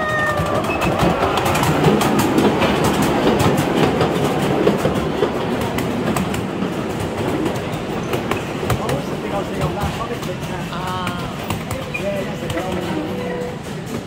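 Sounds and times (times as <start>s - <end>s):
train wheels rumbling on track: 0.0s - 14.0s
wheels clicking over rail joints: 0.0s - 14.0s.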